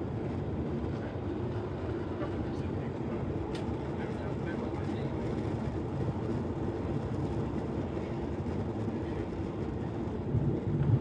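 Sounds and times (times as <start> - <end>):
jet engines in airplane cabin: 0.0 - 11.0.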